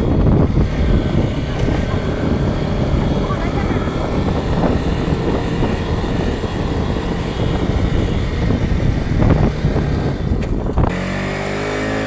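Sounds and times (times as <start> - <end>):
wind rush on microphone: 0.0 - 11.2.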